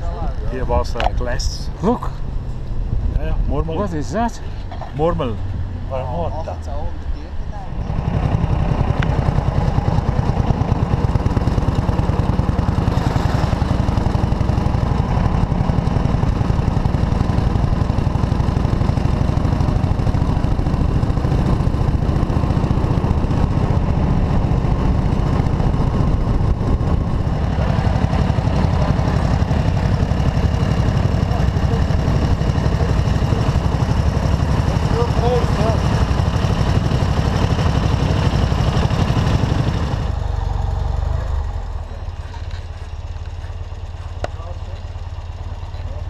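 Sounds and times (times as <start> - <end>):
motorcycle engine running: 7.4 - 46.0.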